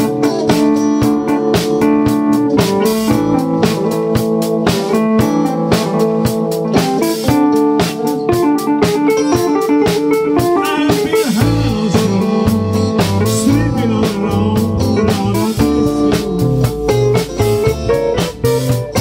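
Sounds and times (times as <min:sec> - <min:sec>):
bent lead guitar notes: 0:00.0 - 0:19.0
drum kit: 0:00.0 - 0:19.0
electric guitars: 0:00.0 - 0:19.0
heavy bass guitar: 0:00.0 - 0:19.0
keyboard: 0:00.0 - 0:19.0.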